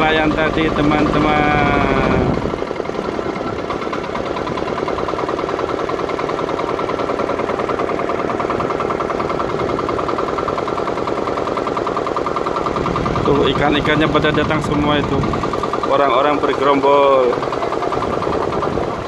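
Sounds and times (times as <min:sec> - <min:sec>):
small boat engine running: 0:00.0 - 0:19.0.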